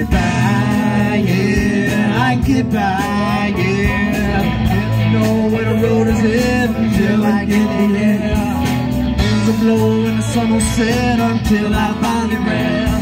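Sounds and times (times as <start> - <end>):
drums keeping a steady beat: 0.0 - 13.0
electric guitar: 0.0 - 13.0
live rock band playing: 0.0 - 13.0
sliding melody line: 0.0 - 13.0.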